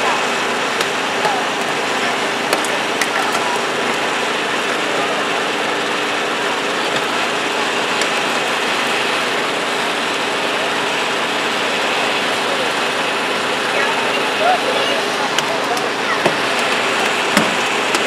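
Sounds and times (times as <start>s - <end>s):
hydraulic pump engine running: 0.0s - 18.0s.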